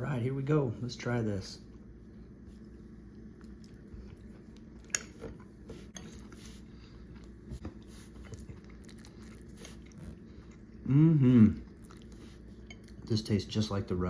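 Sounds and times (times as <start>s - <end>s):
low steady hum: 0.0s - 14.0s
soft chewing: 1.6s - 13.2s.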